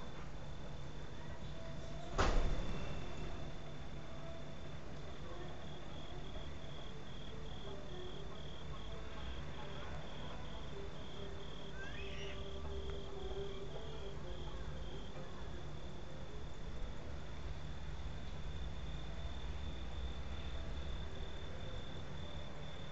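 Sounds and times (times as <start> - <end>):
cricket chirping: 0.0 - 22.9.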